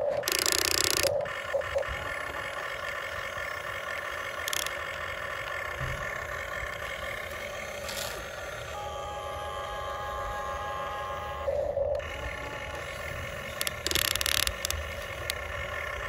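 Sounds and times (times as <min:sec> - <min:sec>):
toy excavator motor whine: 0:00.0 - 0:16.0.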